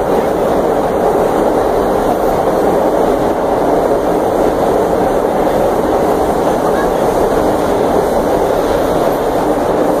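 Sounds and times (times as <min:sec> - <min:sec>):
subway car running: 0:00.0 - 0:10.0.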